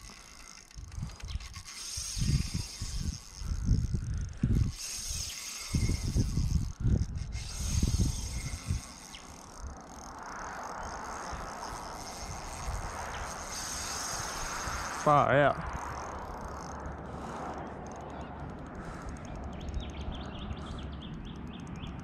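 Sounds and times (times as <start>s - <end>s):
fishing reel whirring and clicking: 0.0s - 22.0s.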